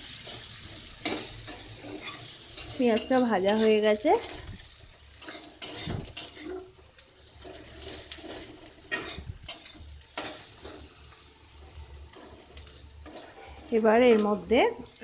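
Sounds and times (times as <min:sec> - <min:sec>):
onions sizzling in oil: 0:00.0 - 0:15.0
metal spatula scraping pan: 0:00.1 - 0:06.8, 0:07.4 - 0:14.5.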